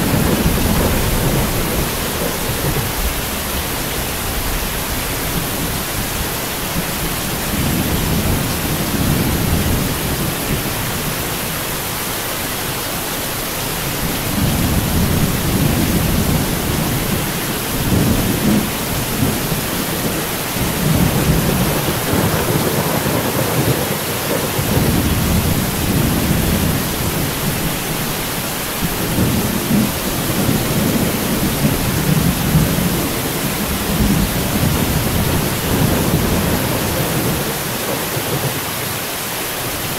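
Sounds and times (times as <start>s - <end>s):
rolling thunder: 0.0s - 11.2s, 13.8s - 28.1s, 28.7s - 38.7s
heavy rain hiss: 0.0s - 39.9s.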